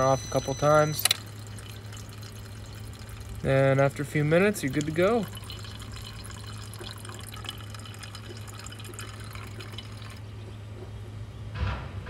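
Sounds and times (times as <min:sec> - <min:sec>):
coolant splashing and dripping: 0:00.0 - 0:10.3
steady low hum: 0:00.0 - 0:12.0.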